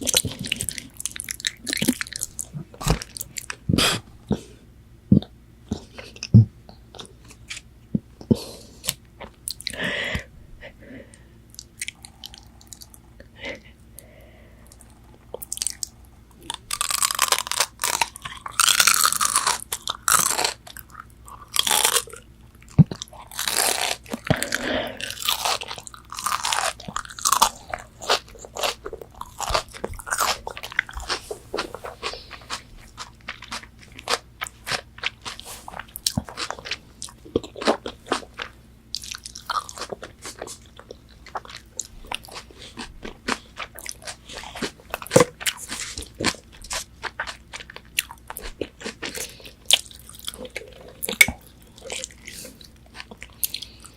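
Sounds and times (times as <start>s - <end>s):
crunchy biting and chewing: 0.0s - 4.1s, 14.7s - 53.9s.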